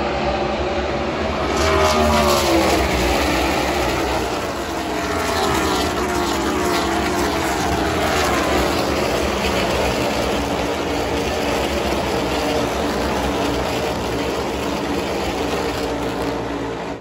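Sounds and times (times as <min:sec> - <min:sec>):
race trucks passing at speed: 0:00.0 - 0:17.0.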